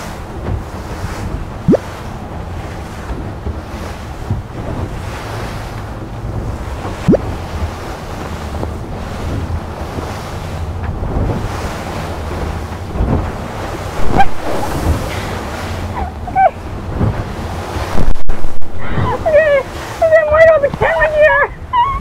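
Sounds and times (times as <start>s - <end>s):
seawater rushing and splashing: 0.0s - 22.0s
wind buffeting microphone: 0.0s - 22.0s.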